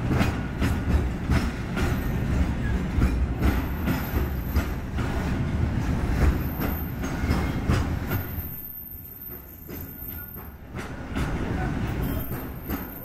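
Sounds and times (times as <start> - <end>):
train low rumble: 0.0 - 13.0
train wheels clacking over rail joints: 0.0 - 13.0.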